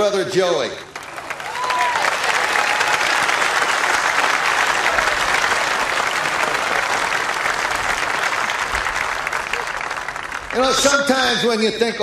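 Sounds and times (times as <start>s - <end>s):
crowd applauding: 0.8s - 11.6s.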